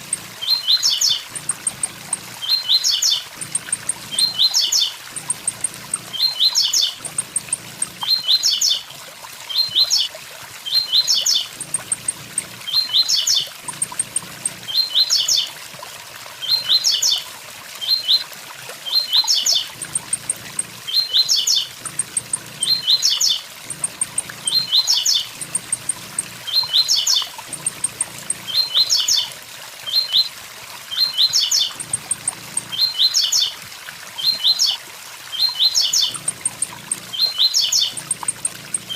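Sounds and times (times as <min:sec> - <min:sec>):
bird song of sharp high notes: 0:00.0 - 0:08.8, 0:10.7 - 0:15.5, 0:16.4 - 0:17.2, 0:17.8 - 0:18.2, 0:18.9 - 0:29.3, 0:29.9 - 0:30.3, 0:30.9 - 0:33.6, 0:34.2 - 0:38.9.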